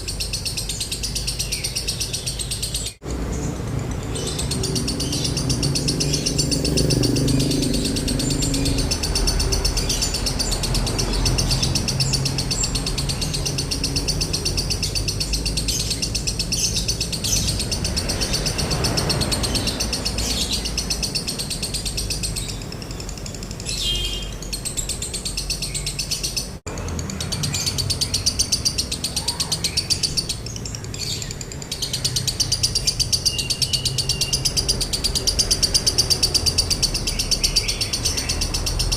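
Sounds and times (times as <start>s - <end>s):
lovebird trilling chatter: 0.0s - 38.9s.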